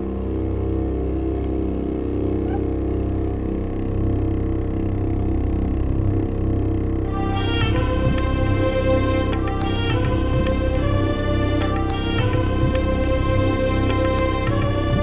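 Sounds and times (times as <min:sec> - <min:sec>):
low drone: 0:00.0 - 0:15.0
slow background music: 0:00.0 - 0:15.0.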